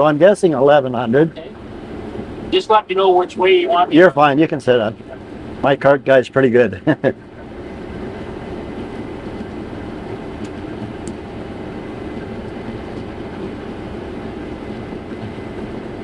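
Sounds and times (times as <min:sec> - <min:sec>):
combine harvester mechanical rumble: 0:00.0 - 0:16.0.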